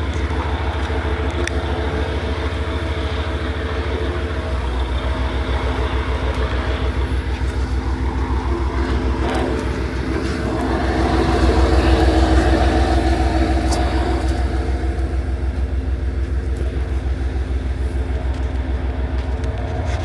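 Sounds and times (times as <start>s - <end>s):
railcar diesel engine running: 0.0s - 20.0s.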